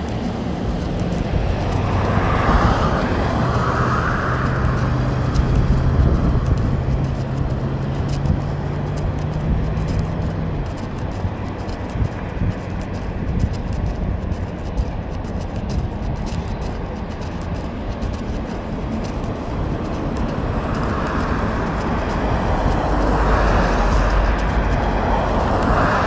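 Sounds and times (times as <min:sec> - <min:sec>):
car tyres on road: 0:00.0 - 0:26.0.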